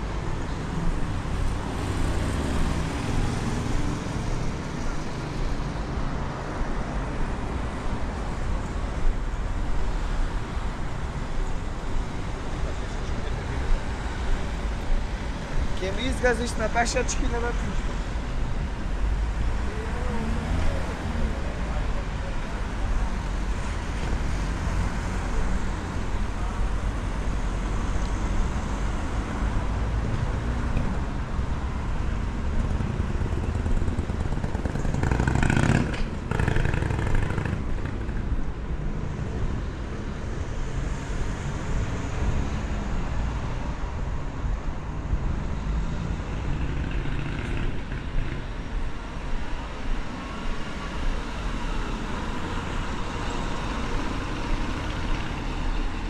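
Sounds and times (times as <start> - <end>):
passing cars: 0.0 - 56.0.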